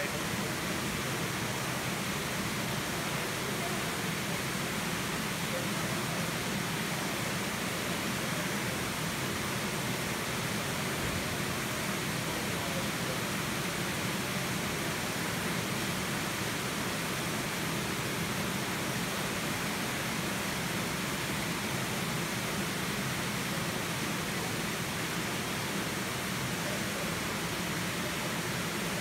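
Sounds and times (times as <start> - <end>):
swimming pool hall hiss: 0.0 - 29.0.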